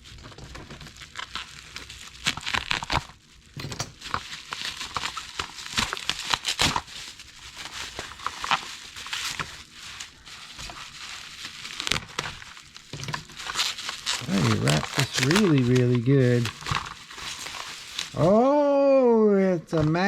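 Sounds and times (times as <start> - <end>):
packing material tearing: 0.0 - 19.1
plastic wrap crinkling: 0.0 - 19.1.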